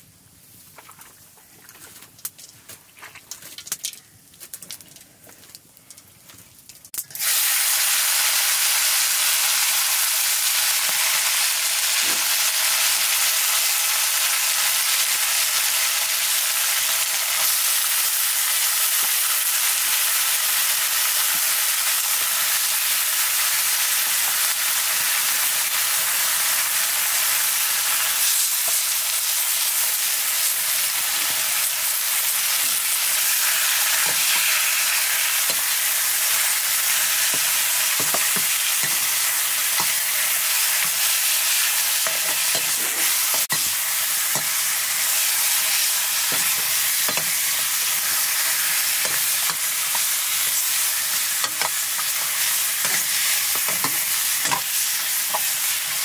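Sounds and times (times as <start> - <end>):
meat sizzling in a wok: 7.0 - 56.0.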